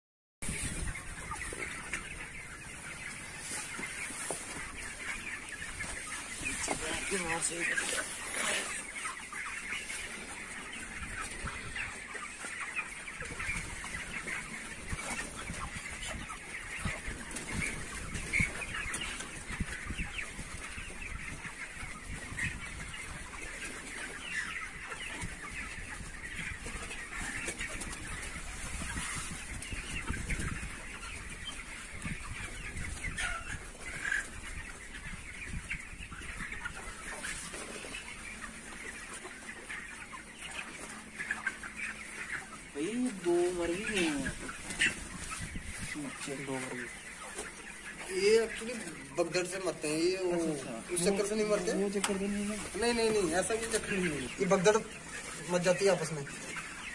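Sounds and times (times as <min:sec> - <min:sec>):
chickens clucking and peeping: 0:00.4 - 0:56.9.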